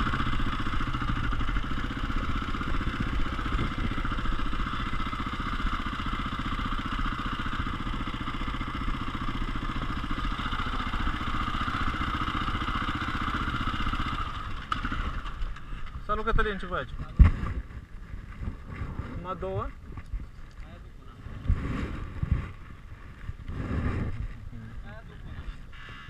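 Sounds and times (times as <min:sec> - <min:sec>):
motorcycle engine running steadily: 0:00.0 - 0:26.0.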